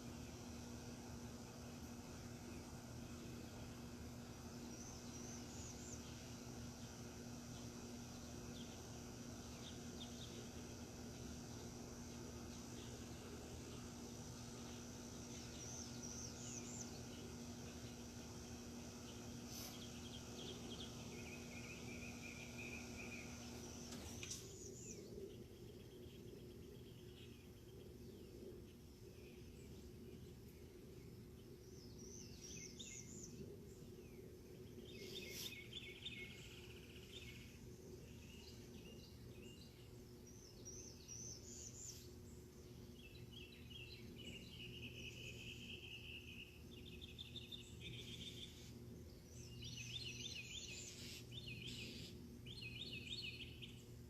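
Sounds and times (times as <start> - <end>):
birds singing: 0.0 - 54.0
faint low hum: 0.0 - 54.0.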